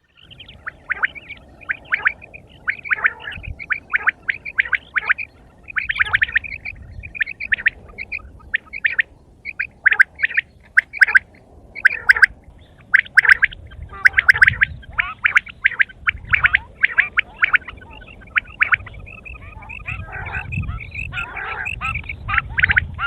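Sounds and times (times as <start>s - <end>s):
quail chirping: 0.0s - 23.0s.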